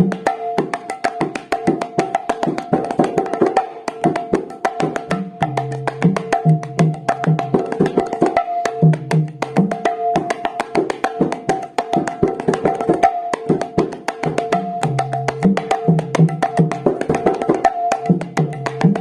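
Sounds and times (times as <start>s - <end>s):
hand drum fast rhythm: 0.0s - 19.0s.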